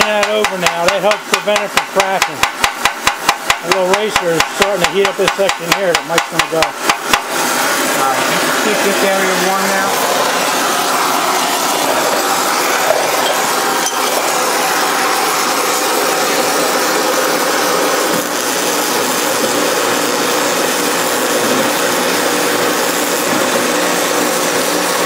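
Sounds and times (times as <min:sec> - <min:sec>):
gas torch roaring: 0:00.0 - 0:25.0
welding arc crackling: 0:00.0 - 0:25.0.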